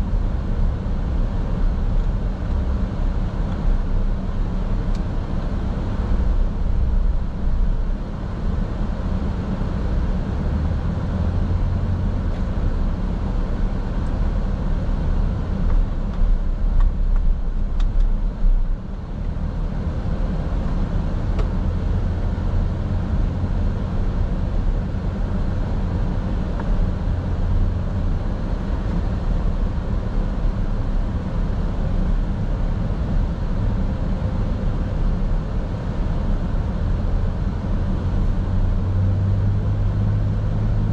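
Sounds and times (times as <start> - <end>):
road and engine rumble inside car: 0.0 - 40.9.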